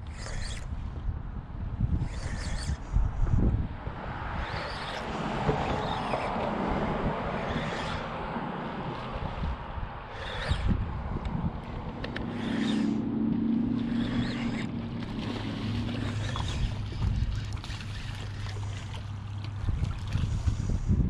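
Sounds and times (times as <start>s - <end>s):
engine running with low hum: 0.0s - 21.0s.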